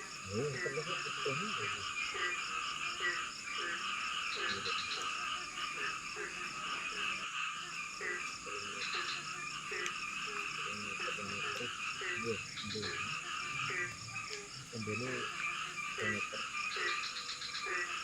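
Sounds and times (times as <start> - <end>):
dense chorus of frog calls: 0.0 - 18.0
short repeated frog calls: 0.0 - 18.0.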